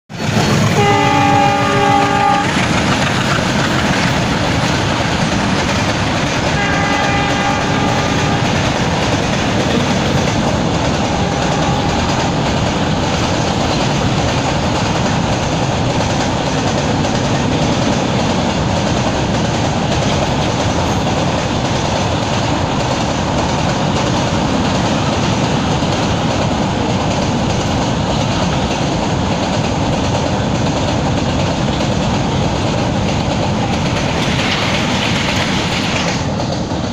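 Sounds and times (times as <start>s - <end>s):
freight train wheels clattering: 0.1s - 36.9s.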